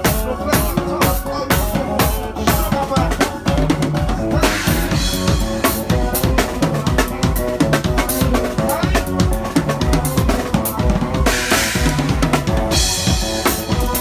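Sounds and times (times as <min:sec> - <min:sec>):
drum kit beat: 0:00.0 - 0:14.0
live band playing soca music: 0:00.0 - 0:14.0.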